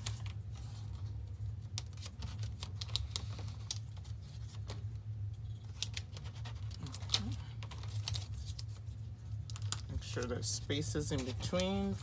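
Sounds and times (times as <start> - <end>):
paper stickers tapping and crinkling: 0.0 - 4.9, 5.5 - 12.0
steady low hum: 0.0 - 12.0.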